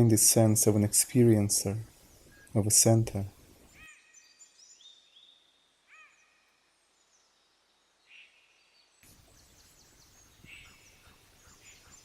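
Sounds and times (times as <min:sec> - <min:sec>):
faint steady hiss: 0:00.0 - 0:12.0
faint bird chirps: 0:01.8 - 0:12.0.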